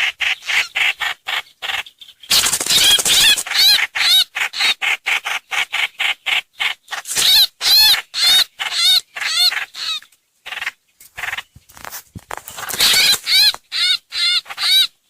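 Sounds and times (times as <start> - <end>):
bird chattering calls: 0.0 - 11.8, 12.6 - 15.0.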